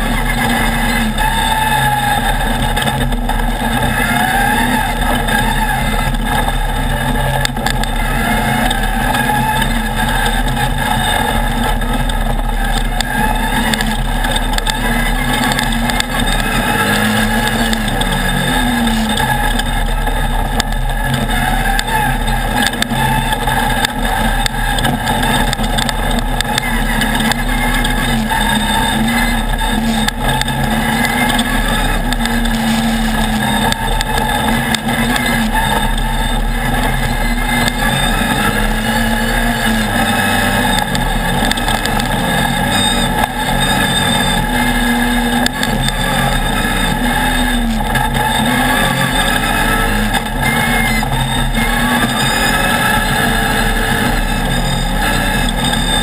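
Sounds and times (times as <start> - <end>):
buggy engine revving: 0.0 - 56.0
steady rushing noise: 0.0 - 56.0.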